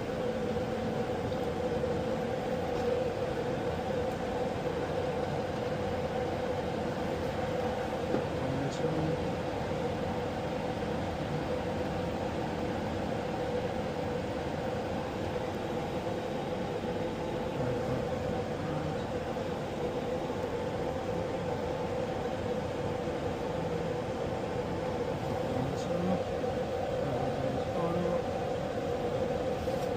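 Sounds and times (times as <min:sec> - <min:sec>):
turbine engine idling: 0:00.0 - 0:29.9.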